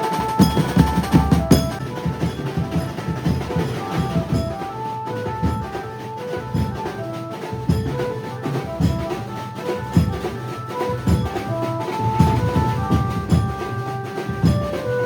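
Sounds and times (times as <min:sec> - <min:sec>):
steady drum beats: 0:00.0 - 0:15.0.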